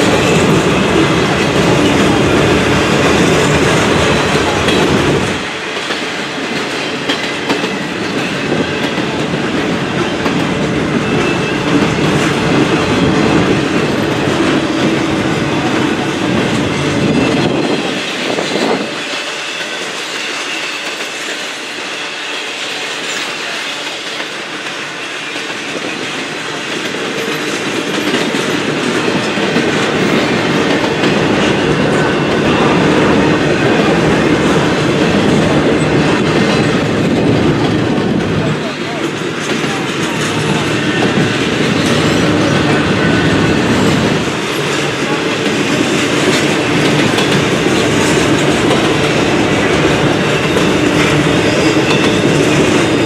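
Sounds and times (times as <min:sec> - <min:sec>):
train wheels clattering on rail joints: 0:00.0 - 0:53.0.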